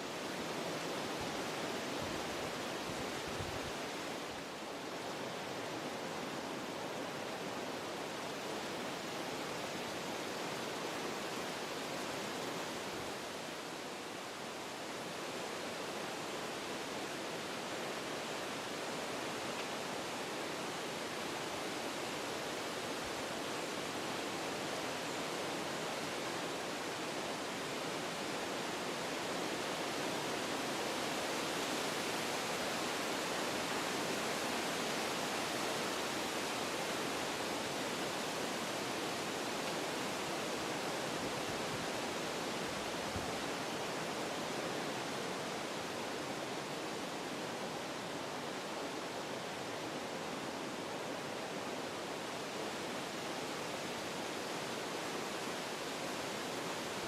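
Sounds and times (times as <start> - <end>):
wind blowing through trees: 0.0 - 57.0.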